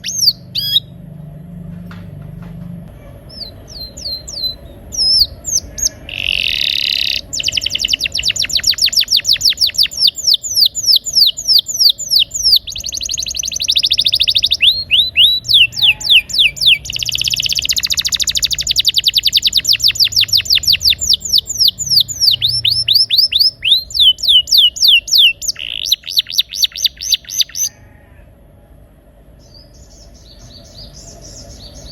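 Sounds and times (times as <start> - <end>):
canary singing trills: 0.0 - 1.1, 3.0 - 27.9, 29.4 - 31.9.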